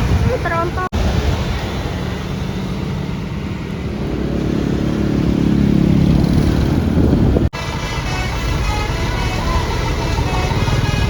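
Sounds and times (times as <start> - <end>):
bus engine accelerating: 0.0 - 11.0.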